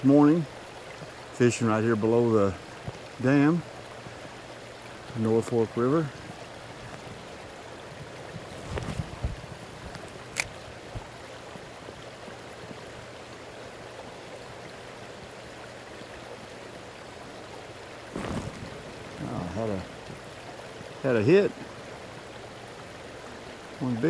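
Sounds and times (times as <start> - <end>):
river current flowing: 0.0 - 24.0.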